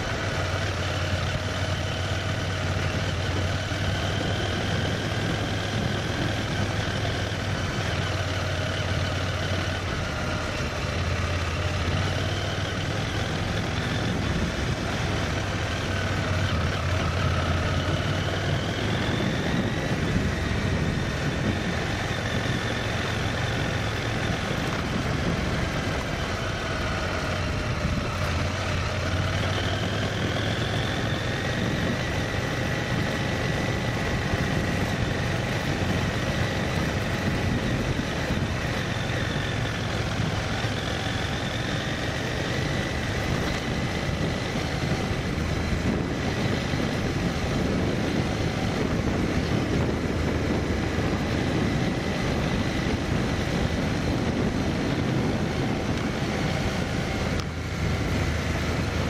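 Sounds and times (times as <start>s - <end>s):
road noise: 0.0s - 59.0s
vehicle engine droning: 0.0s - 59.0s.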